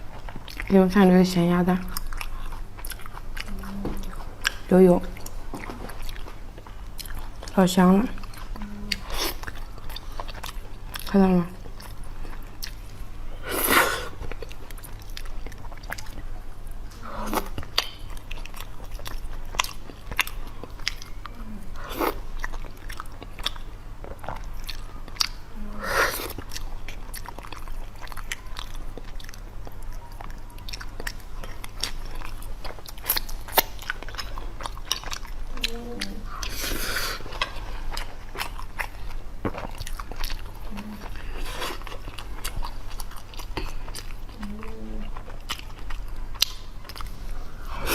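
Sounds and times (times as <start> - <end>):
chewing with mouth clicks: 0.0 - 13.0, 13.7 - 25.5, 26.1 - 47.9.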